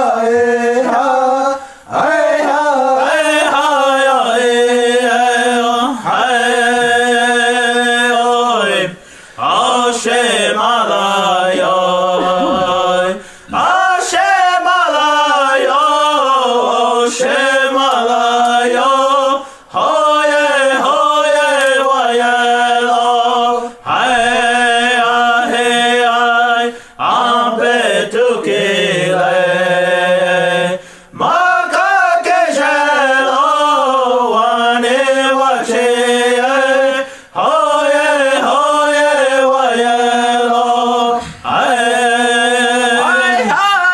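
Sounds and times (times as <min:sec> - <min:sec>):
person chanting: 0:00.0 - 0:43.9.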